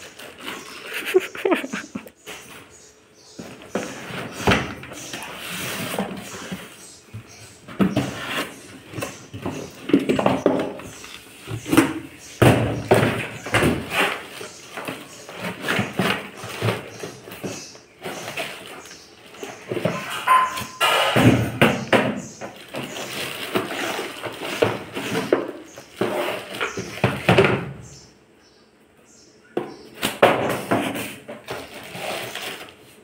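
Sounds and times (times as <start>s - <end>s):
cardboard and plastic rustling: 0.0s - 27.6s, 30.0s - 33.0s.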